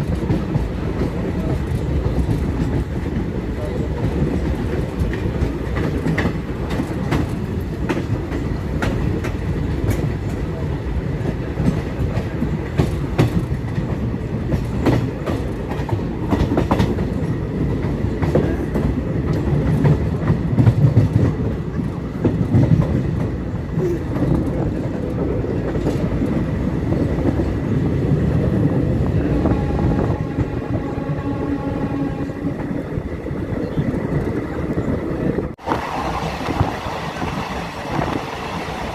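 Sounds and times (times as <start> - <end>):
train rumbling on track: 0.0 - 38.9.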